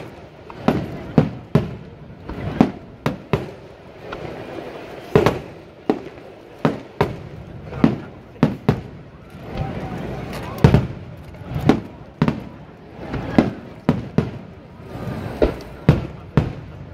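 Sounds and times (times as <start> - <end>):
fireworks bursting with bangs: 0.0 - 16.9.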